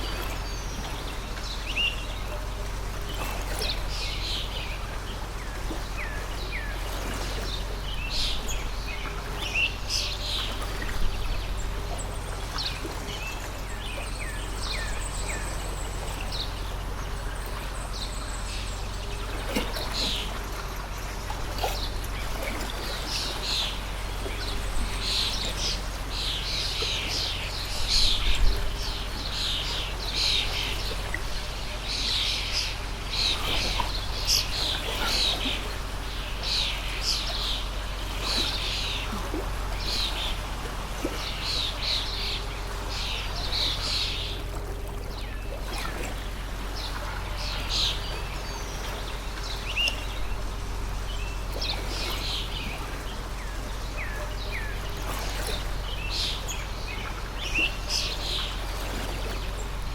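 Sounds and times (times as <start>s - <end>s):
flowing stream: 0.0s - 59.9s
small birds chirping: 0.0s - 59.9s.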